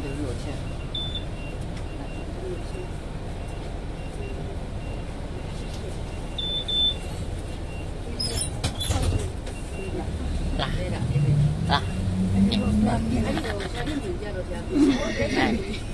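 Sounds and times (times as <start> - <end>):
vehicle engine rumbling: 0.0 - 15.9.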